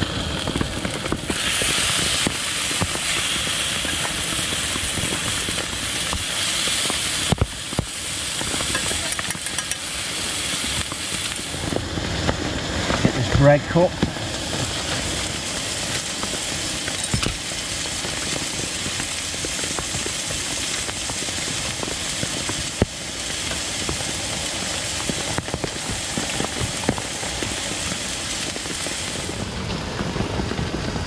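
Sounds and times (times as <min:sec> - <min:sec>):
pan sizzling: 0:00.0 - 0:30.2
rain on canvas: 0:00.0 - 0:31.0.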